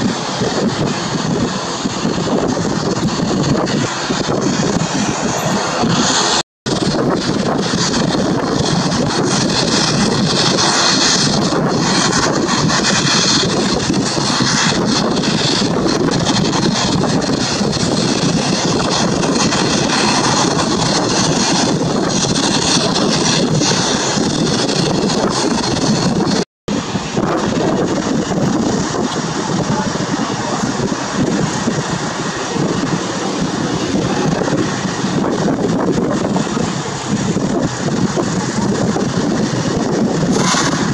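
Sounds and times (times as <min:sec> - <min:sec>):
distant jet engine: 0:00.0 - 0:40.9
wind buffeting the microphone: 0:00.0 - 0:40.9.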